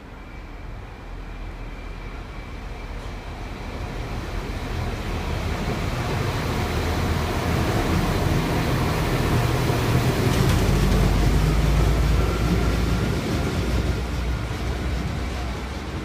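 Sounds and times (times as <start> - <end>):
rail vehicle rumbling past: 0.0 - 16.0.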